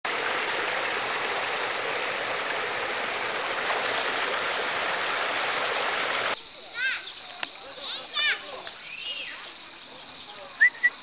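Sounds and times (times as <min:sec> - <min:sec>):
flowing water rushing: 0:00.1 - 0:11.0.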